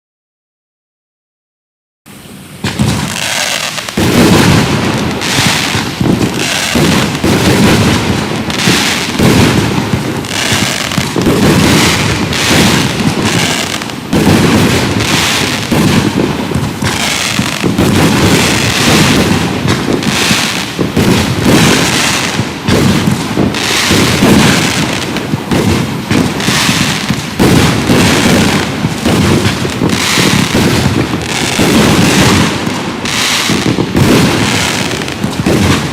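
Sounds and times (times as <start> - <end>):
fireworks barrage: 2.1 - 35.9.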